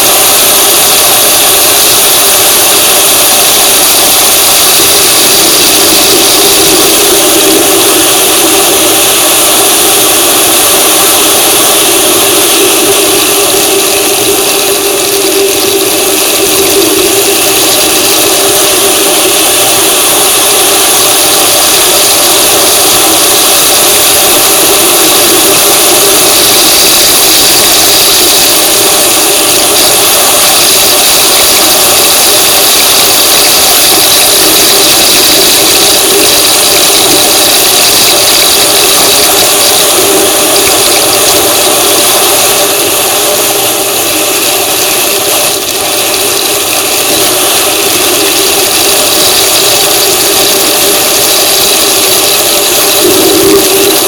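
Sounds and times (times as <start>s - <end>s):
vehicle engine: 4.0s - 30.6s, 32.8s - 54.0s.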